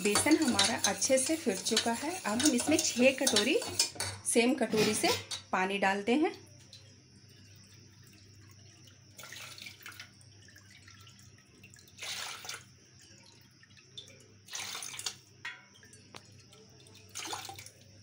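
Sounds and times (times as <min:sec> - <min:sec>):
water pouring into steel pot: 0:00.0 - 0:05.5, 0:06.4 - 0:18.0.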